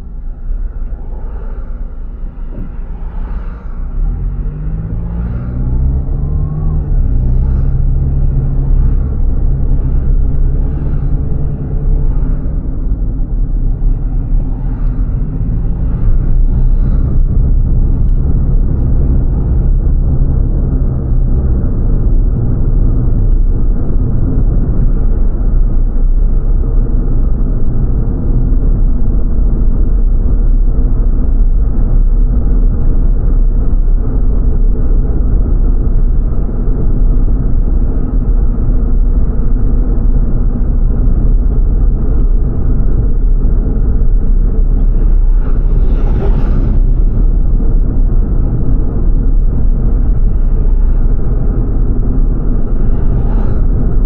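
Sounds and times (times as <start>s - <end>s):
car tyre and engine rumble: 0.0s - 54.0s
passing vehicle whoosh: 0.0s - 54.0s.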